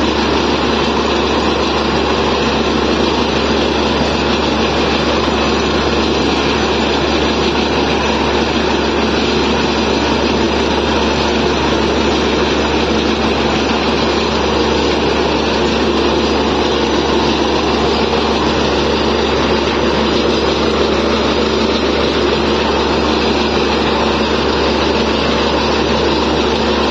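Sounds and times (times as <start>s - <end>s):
drilling rig engine running: 0.0s - 26.9s
water and cuttings blowing out: 0.0s - 26.9s.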